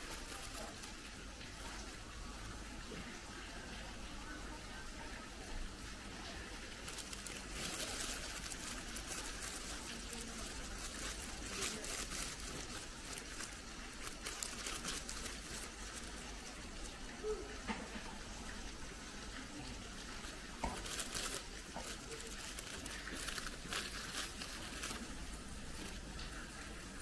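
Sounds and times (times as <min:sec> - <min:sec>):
water trickling: 0:00.0 - 0:27.0.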